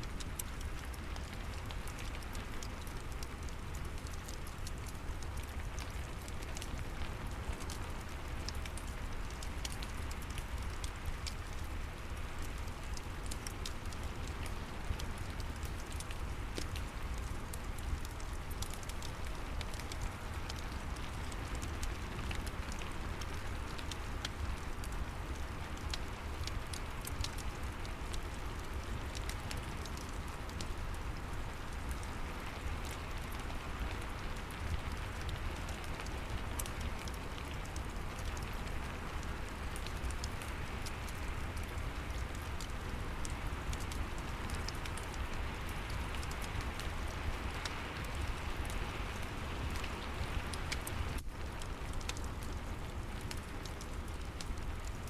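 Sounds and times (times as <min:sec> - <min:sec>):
rain falling: 0:00.0 - 0:55.0
wood fire crackling: 0:00.0 - 0:55.0.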